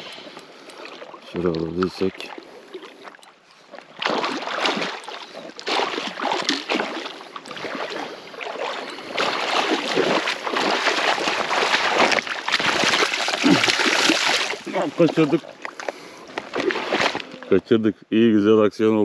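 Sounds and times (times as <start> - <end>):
fish thrashing and splashing water: 0.0 - 17.5.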